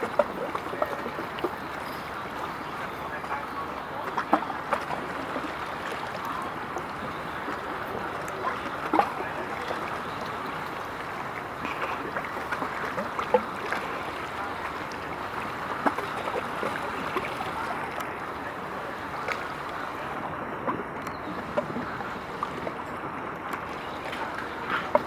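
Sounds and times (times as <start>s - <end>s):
water rushing: 0.0s - 25.0s
wind: 0.0s - 25.0s.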